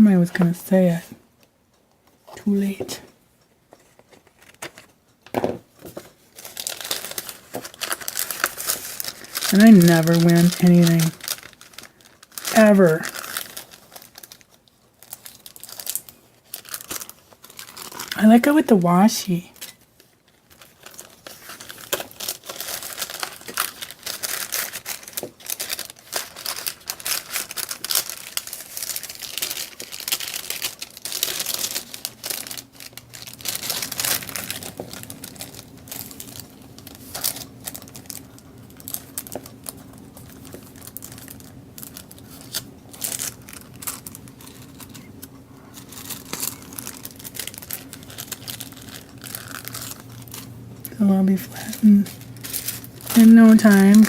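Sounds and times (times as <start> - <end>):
low steady hum: 0.0 - 54.0
cellophane bags crinkling: 3.8 - 54.0.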